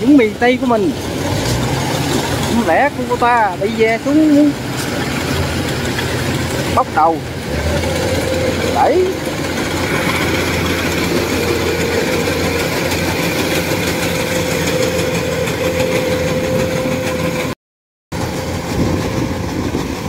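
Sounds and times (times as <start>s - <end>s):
combine harvester engine drone: 0.0s - 17.6s, 18.2s - 20.0s
steady mechanical whine: 0.0s - 17.6s, 18.2s - 20.0s.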